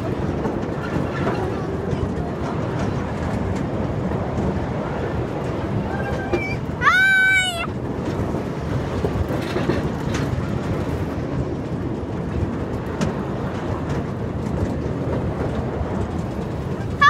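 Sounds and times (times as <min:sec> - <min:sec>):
ride car rumbling: 0:00.0 - 0:17.0.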